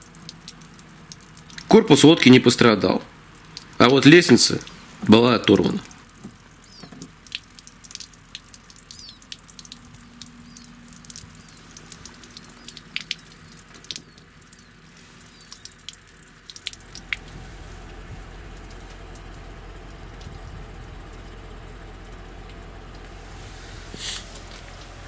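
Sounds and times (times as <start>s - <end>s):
water dripping from boat hull: 0.0s - 23.2s
low steady rumble: 0.0s - 25.0s.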